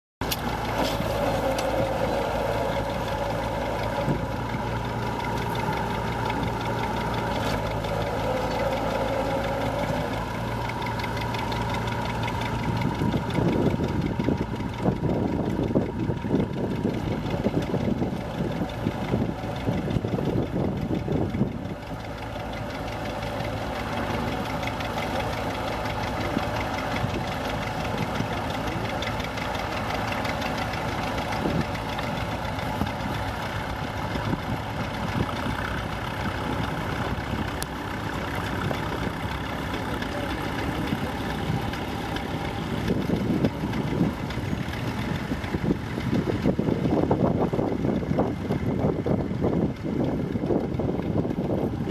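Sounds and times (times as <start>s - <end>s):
old tractor engine running: 0.2s - 51.9s.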